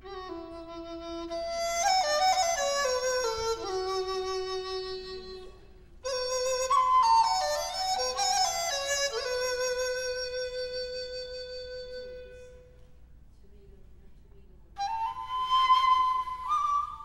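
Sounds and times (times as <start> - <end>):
low bamboo flute notes: 0.0 - 12.8, 14.8 - 17.0.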